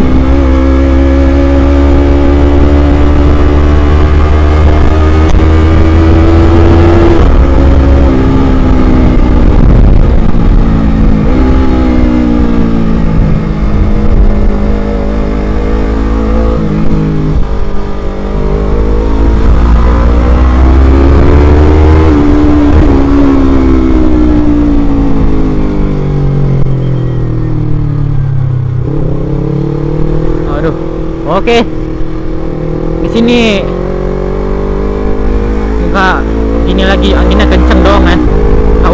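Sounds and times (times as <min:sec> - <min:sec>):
motorcycle engine revving: 0:00.0 - 0:38.9
wind rumble on microphone: 0:00.0 - 0:38.9.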